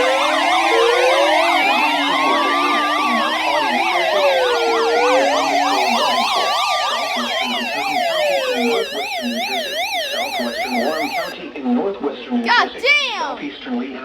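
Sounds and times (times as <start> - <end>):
siren fast yelp: 0.0 - 11.4
siren wail: 0.0 - 11.4.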